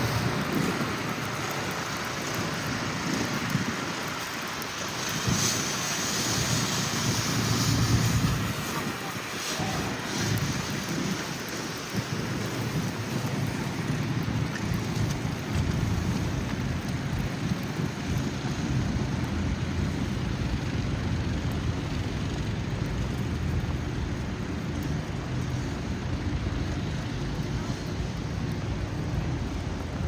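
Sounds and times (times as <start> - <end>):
city street traffic noise: 0.0 - 30.0
wind buffeting microphone: 0.0 - 30.0.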